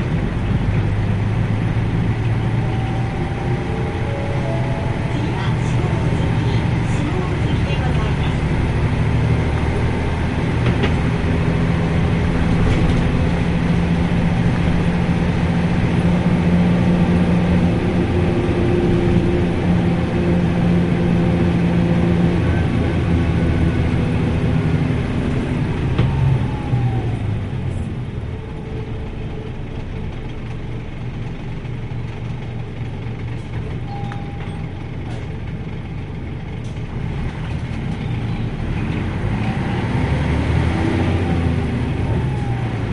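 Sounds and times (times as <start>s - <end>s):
bus diesel engine droning: 0.0s - 42.9s.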